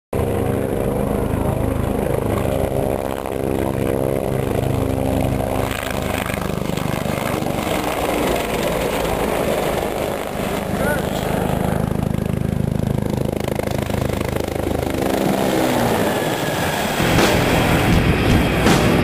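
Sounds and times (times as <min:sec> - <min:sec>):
helicopter flying low: 0:00.1 - 0:19.0.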